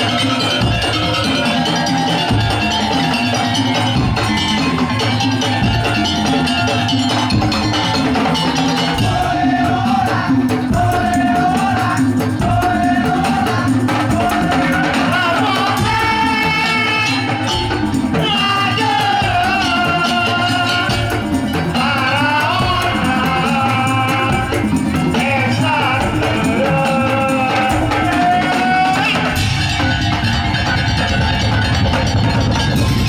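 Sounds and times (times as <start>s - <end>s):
drums: 0.0s - 33.0s
rattling jingling percussion: 0.0s - 33.0s.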